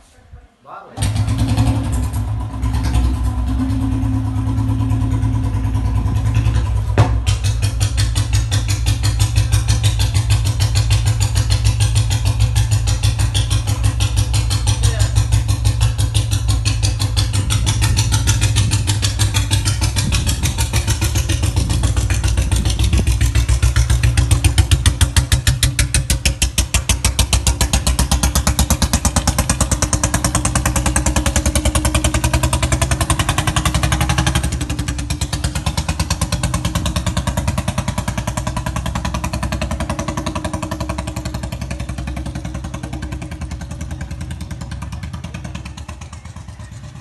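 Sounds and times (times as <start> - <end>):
motorcycle engine idling: 1.0 - 47.0.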